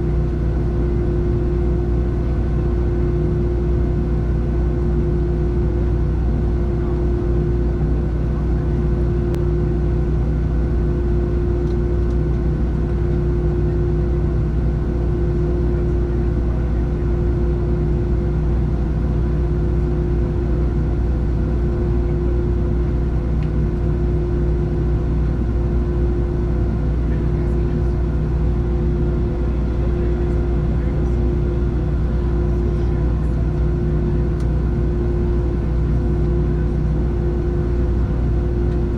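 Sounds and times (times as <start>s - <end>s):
jet airliner cabin drone: 0.0s - 38.9s.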